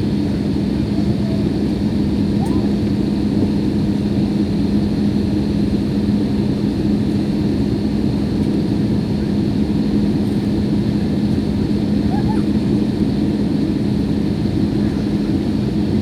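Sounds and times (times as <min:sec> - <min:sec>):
jet airliner cabin noise: 0:00.0 - 0:16.0.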